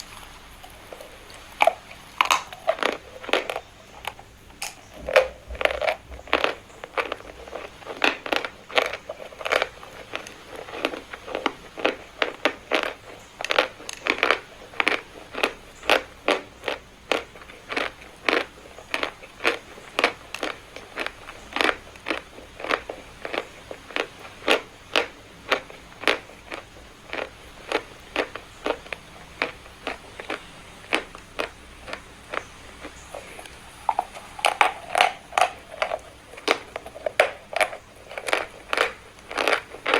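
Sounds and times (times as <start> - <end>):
person chewing chalk: 0.0 - 39.9.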